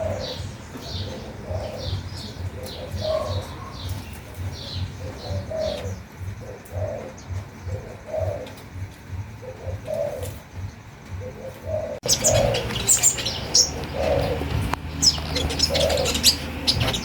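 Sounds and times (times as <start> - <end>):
dove cooing: 0.0 - 17.0
low even pulsing: 0.0 - 17.0
small bird chirping: 0.0 - 17.0.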